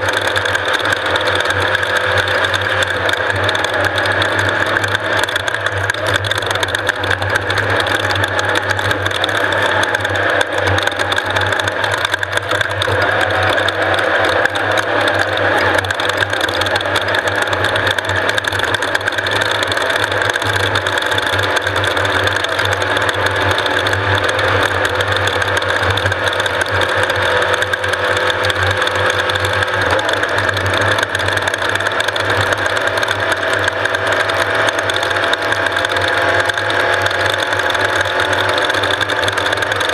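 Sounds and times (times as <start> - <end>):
dense fast rattle: 0.0 - 39.9
engine running steadily: 0.0 - 39.9.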